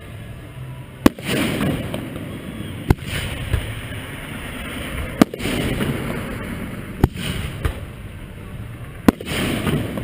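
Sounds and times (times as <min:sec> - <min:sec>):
fireworks bangs: 0:01.0 - 0:10.0
fireworks crackling spray: 0:01.0 - 0:10.0.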